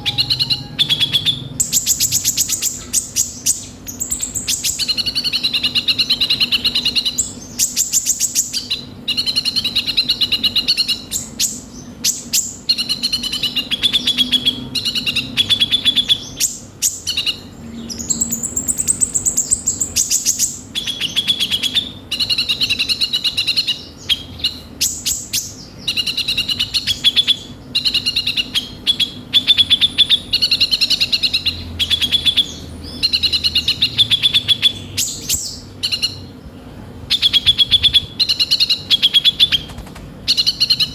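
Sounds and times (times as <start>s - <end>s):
buzzing bird trill: 0.0s - 36.4s
faint steady hum: 0.0s - 40.9s
sunbird twittering song: 0.0s - 40.9s.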